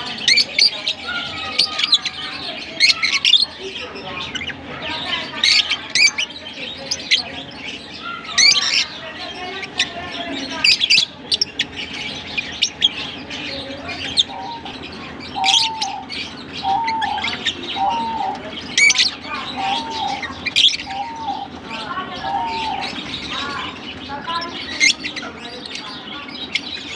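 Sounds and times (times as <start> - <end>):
lovebirds chirping and chattering: 0.0 - 26.9.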